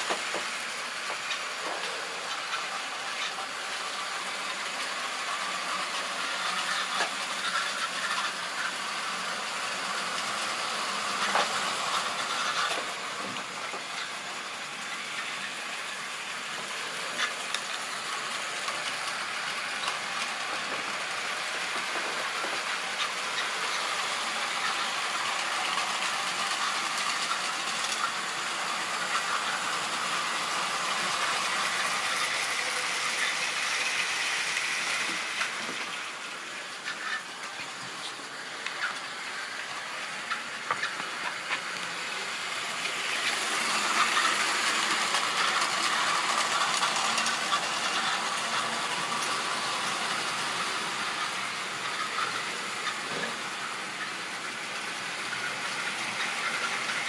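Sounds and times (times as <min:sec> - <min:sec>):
model train motor whirring: 0:00.0 - 0:57.0.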